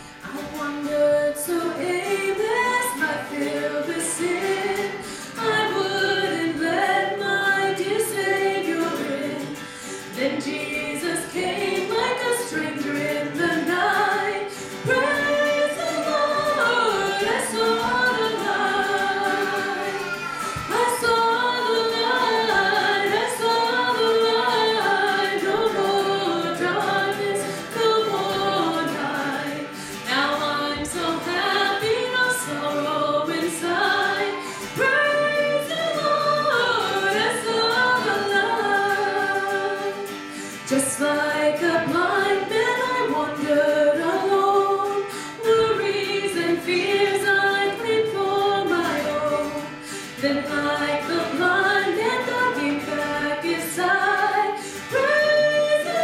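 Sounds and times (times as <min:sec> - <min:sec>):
acoustic guitar strumming: 0:00.0 - 0:56.0
woman singing into microphone: 0:00.0 - 0:56.0.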